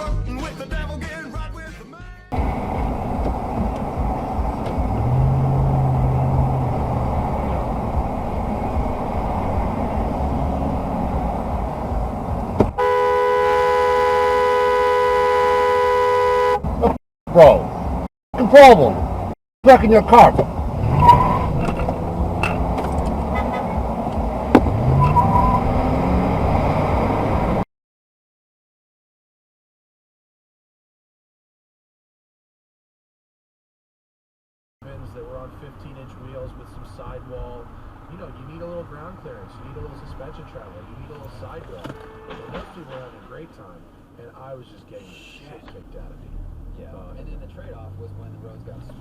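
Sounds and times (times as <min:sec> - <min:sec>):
car road and engine noise: 0:02.3 - 0:27.7, 0:34.8 - 0:49.0.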